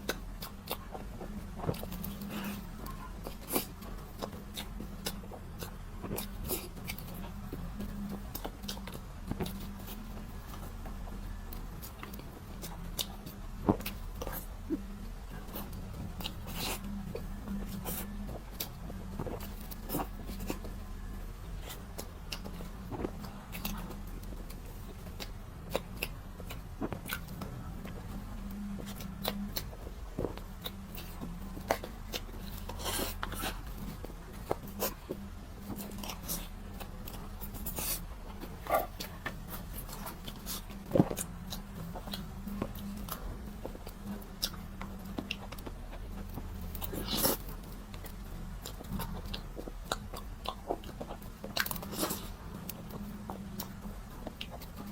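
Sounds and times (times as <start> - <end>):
chewing food: 0.0 - 54.9.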